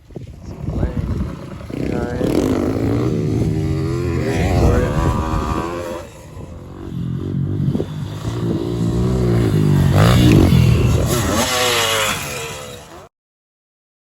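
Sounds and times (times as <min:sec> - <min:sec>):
motorbike engine revving: 0:00.4 - 0:13.1.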